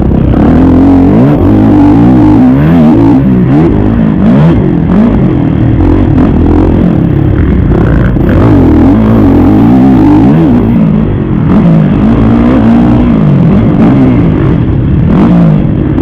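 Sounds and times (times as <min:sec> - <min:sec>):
motocross engine revving: 0:00.0 - 0:16.0.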